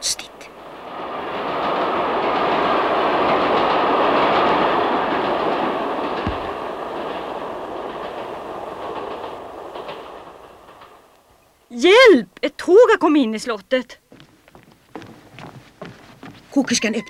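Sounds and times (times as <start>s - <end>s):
train rattling past: 0.0s - 17.0s.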